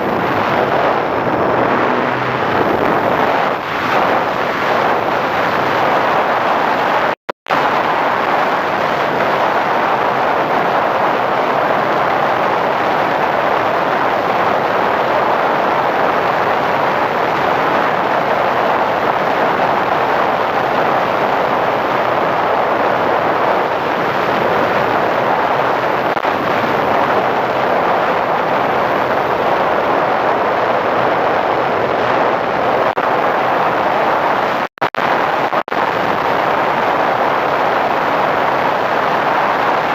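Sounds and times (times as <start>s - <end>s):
model plane propeller noise: 0.0s - 39.9s
rushing wind: 0.0s - 39.9s.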